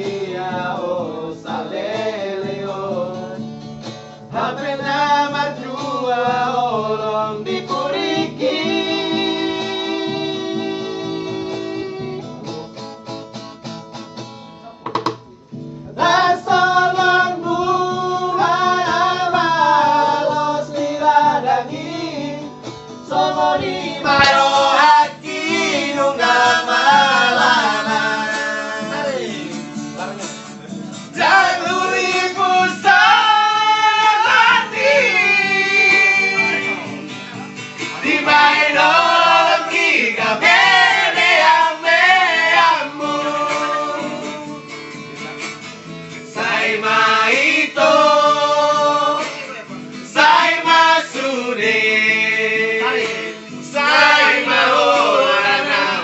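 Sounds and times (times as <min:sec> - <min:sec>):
men singing together: 0:00.0 - 0:12.2, 0:16.0 - 0:30.3, 0:30.9 - 0:37.1, 0:37.9 - 0:44.8, 0:46.3 - 0:56.0
strummed acoustic guitar: 0:00.0 - 0:56.0.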